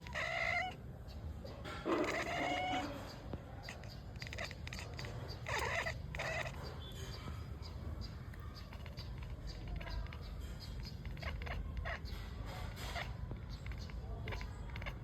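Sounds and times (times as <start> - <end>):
cat meowing: 0.0 - 0.9, 1.8 - 6.8, 8.3 - 15.0.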